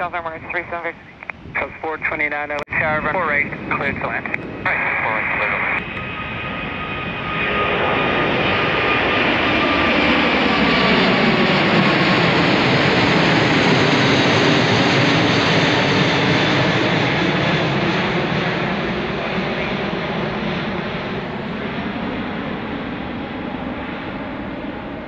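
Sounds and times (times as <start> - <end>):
jet engines roaring overhead: 0.0 - 25.0.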